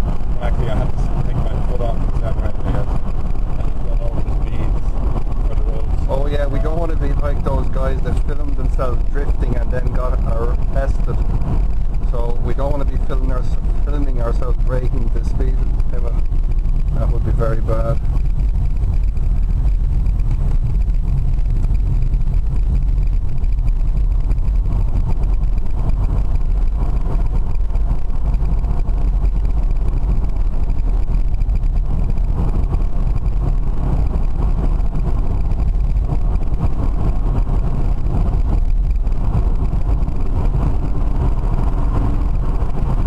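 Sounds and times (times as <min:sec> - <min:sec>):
tyre noise inside car: 0:00.0 - 0:43.0
wind noise: 0:00.0 - 0:43.0.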